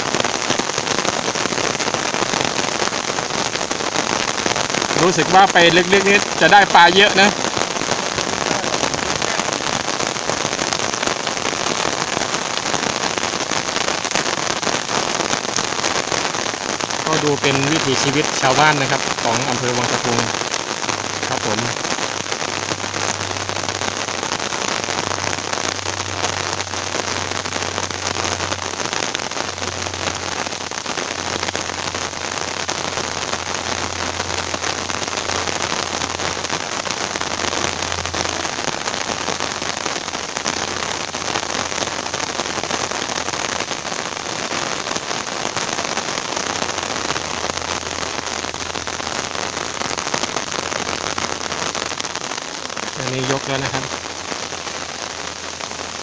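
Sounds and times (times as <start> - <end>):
heavy rain on water: 0.0 - 56.0.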